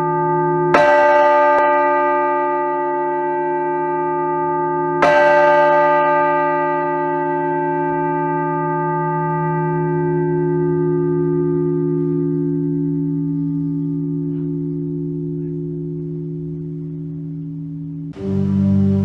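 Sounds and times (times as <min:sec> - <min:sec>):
church bell tolling: 0:00.0 - 0:19.0.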